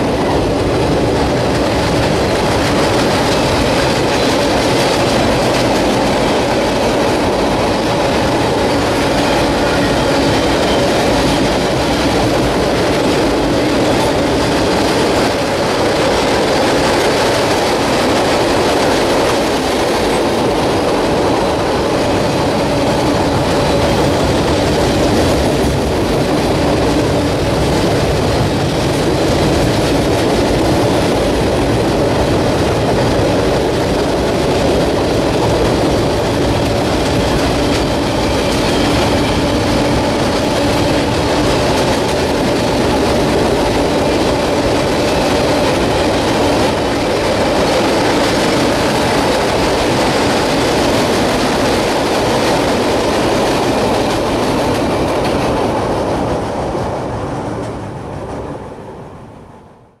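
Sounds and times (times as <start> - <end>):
freight cars clattering over bridge: 0.0 - 58.9.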